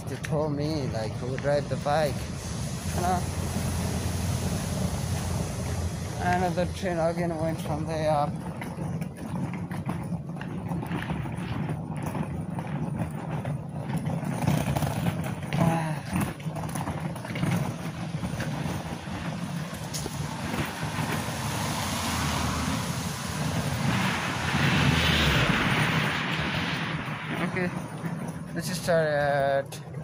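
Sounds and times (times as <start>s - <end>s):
steady low rumble: 0.0s - 13.5s, 17.5s - 28.6s
motor vehicle passing: 0.0s - 30.0s.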